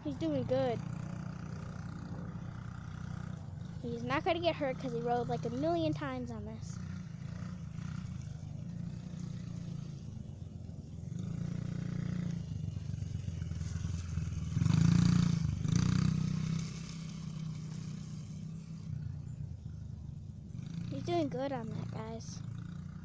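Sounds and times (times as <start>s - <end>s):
small dirt bike engine running: 0.0s - 23.0s.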